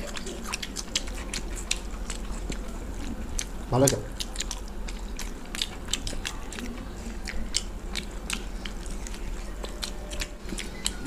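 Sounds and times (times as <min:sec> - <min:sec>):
people chewing fried food: 0:00.0 - 0:11.0.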